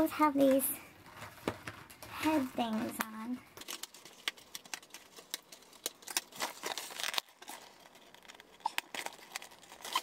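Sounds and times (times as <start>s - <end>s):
packaging crinkling and tearing: 1.0s - 10.0s.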